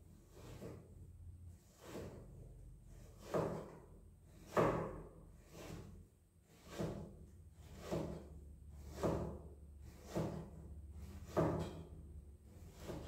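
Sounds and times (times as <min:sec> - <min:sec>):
knife chopping on cutting board: 0:00.3 - 0:00.8, 0:01.6 - 0:13.0.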